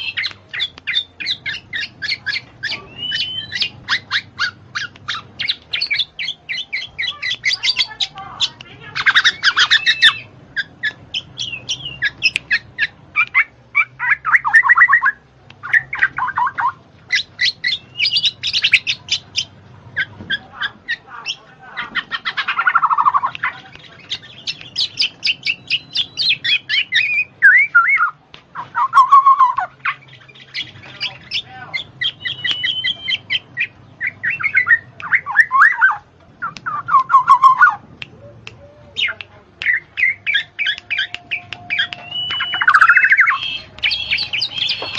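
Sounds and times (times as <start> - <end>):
birds chirping and squawking: 0.0 - 44.9.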